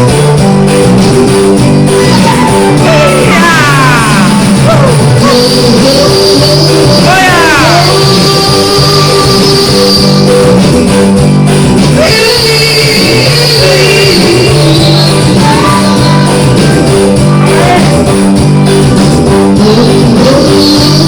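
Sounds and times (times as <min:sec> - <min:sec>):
loud music with singing: 0:00.0 - 0:21.0.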